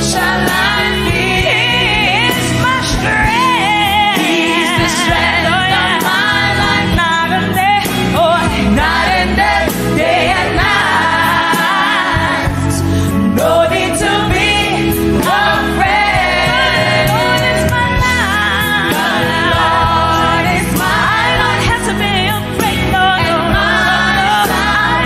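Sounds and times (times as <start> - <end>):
gospel choir singing: 0.0 - 25.0
woman singing lead: 0.0 - 25.0.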